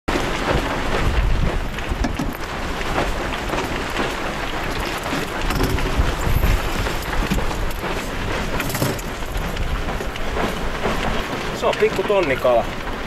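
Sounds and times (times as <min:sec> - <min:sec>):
rush of sea: 0:00.1 - 0:13.0
sailboat moving through water: 0:00.1 - 0:13.0
wind buffeting microphone: 0:00.1 - 0:13.0.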